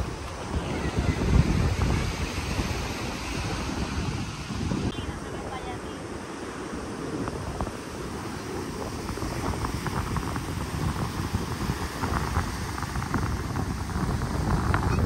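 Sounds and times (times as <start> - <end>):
surf washing: 0.0 - 15.0
wind buffeting microphone: 0.0 - 15.0.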